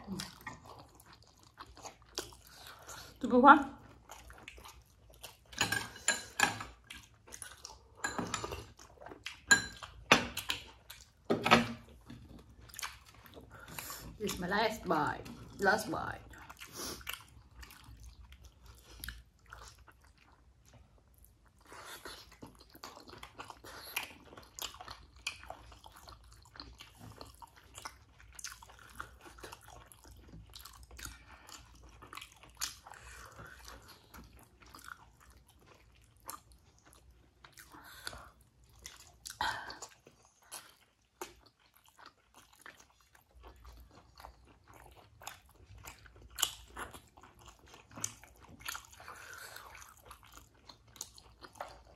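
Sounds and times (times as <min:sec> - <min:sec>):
chewing dumplings: 0:00.0 - 0:51.9.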